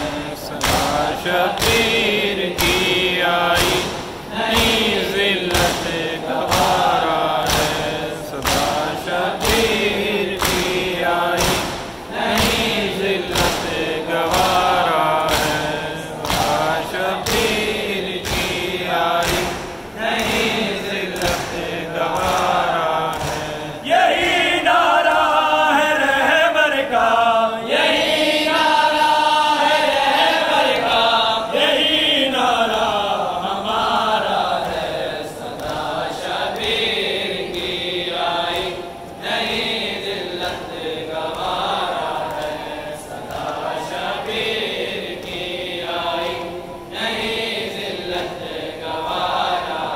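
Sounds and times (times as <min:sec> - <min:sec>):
mourners chanting: 0:00.0 - 0:49.9.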